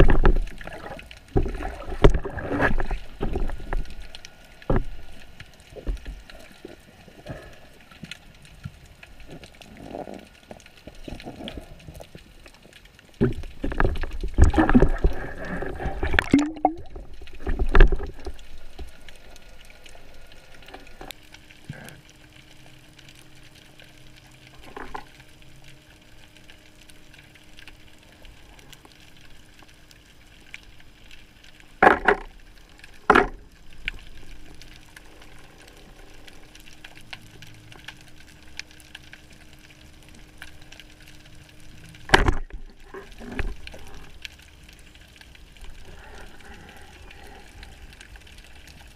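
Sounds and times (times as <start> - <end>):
faint constant hum: 0.0 - 48.9
low steady underwater hiss: 0.0 - 48.9
water rushing and bubbling: 0.0 - 48.9.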